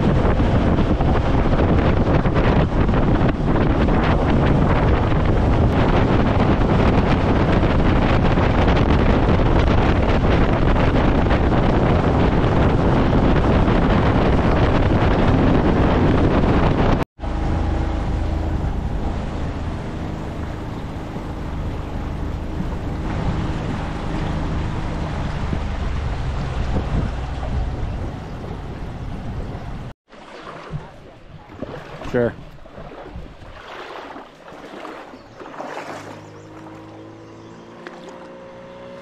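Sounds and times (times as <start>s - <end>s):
wind noise on microphone: 0.0s - 29.9s, 30.5s - 39.0s
outboard motor droning: 0.0s - 39.0s
water rushing along hull: 0.0s - 39.0s.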